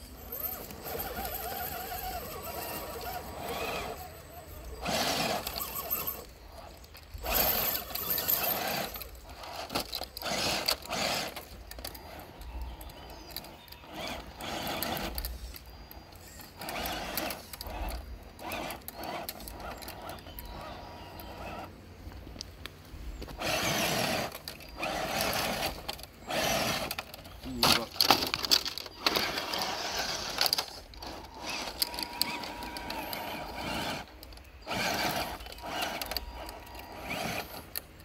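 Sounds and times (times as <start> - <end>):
electric motors whirring: 0.0 - 38.0.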